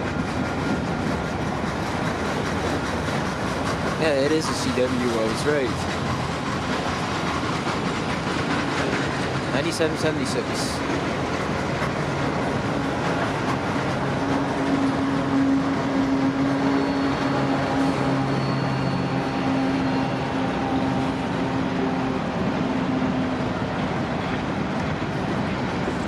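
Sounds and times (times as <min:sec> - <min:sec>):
diesel locomotive engine hum: 0:00.0 - 0:26.0
wheels rumbling on rail: 0:00.0 - 0:26.0.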